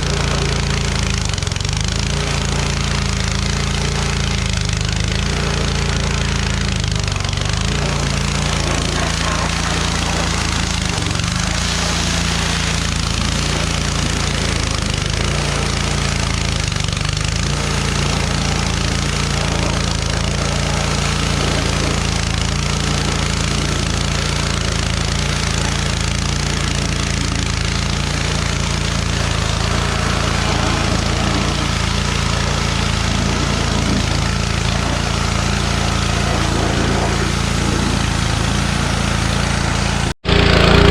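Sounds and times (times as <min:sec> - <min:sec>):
water spray hissing: 0:00.0 - 0:40.2
pressure washer motor droning: 0:00.0 - 0:40.9.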